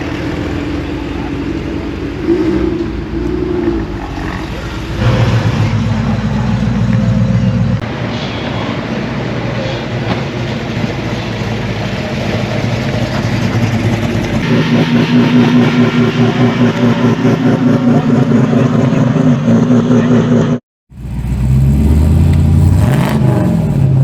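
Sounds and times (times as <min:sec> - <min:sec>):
car engines running: 0:00.0 - 0:24.0.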